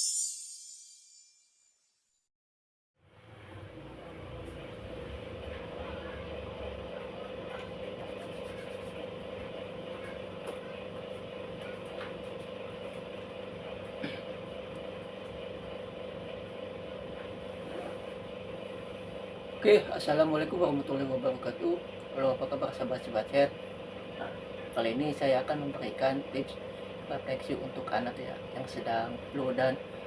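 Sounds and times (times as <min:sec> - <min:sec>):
steady background hum: 0:04.7 - 0:30.0.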